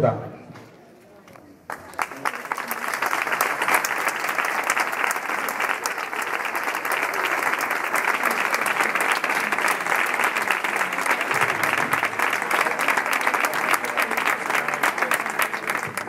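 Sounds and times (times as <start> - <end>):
small crowd applauding: 1.3 - 16.0.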